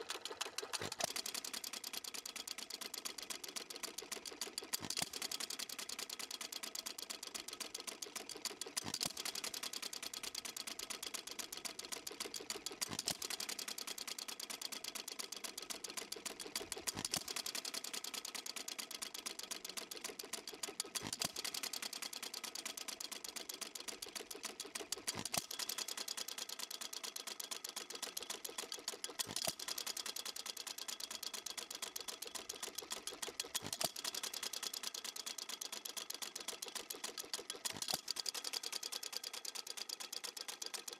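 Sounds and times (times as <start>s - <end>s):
engine ticking clatter: 0.0s - 40.9s.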